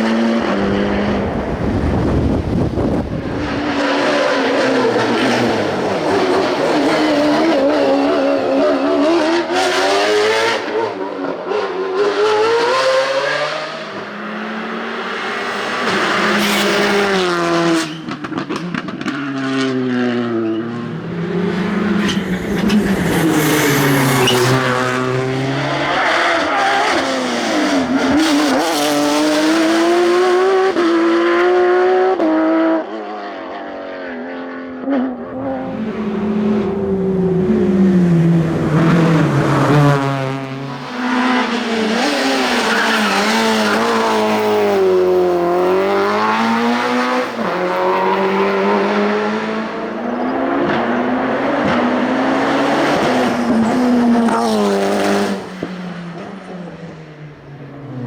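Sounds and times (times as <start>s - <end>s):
racing car engines revving hard: 0.0s - 58.0s.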